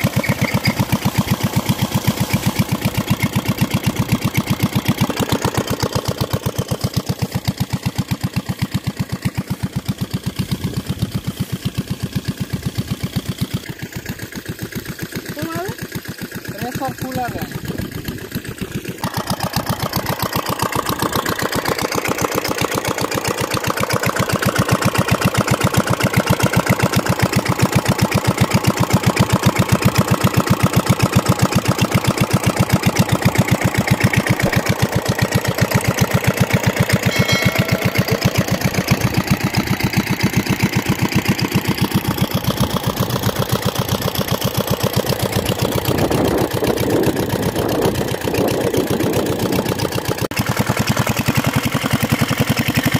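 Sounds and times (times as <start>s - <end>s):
single-cylinder engine running: 0.0s - 52.9s.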